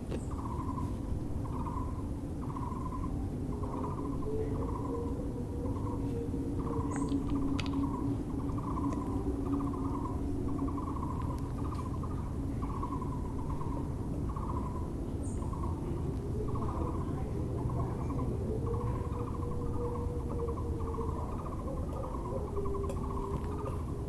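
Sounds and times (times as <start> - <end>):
barbet calling in pulsed phrases: 0.0 - 24.0
low hum: 0.0 - 24.0
high bird chirp: 0.2 - 24.0.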